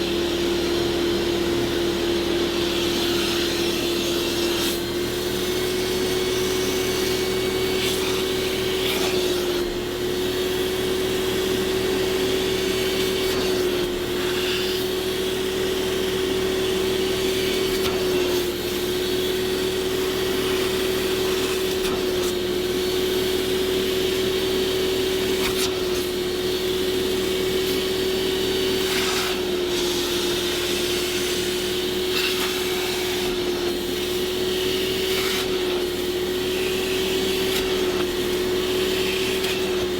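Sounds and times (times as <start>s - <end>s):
vacuum motor whining: 0.0s - 39.9s.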